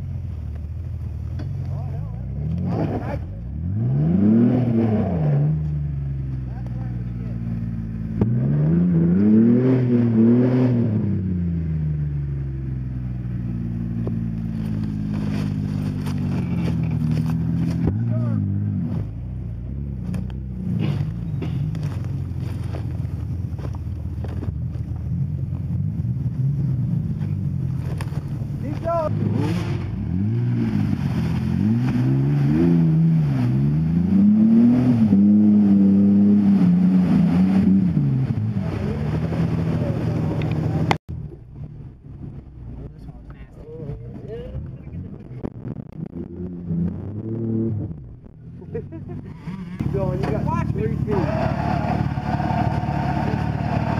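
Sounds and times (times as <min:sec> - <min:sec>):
suv engine revving: 0:00.0 - 0:53.9.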